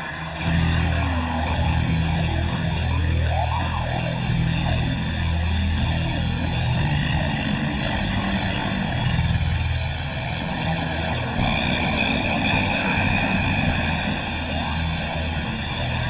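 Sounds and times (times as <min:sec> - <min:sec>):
loud droning rock music: 0:00.0 - 0:16.0.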